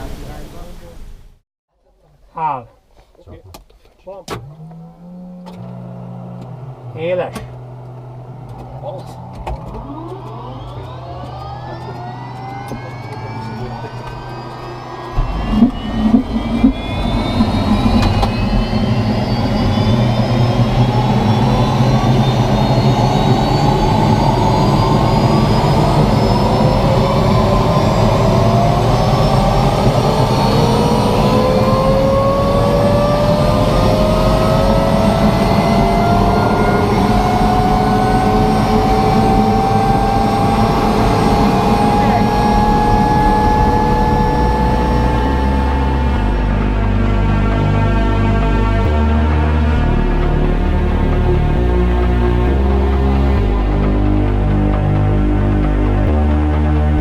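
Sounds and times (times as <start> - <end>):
helicopter turbine engines spooling up: 4.6 - 57.0.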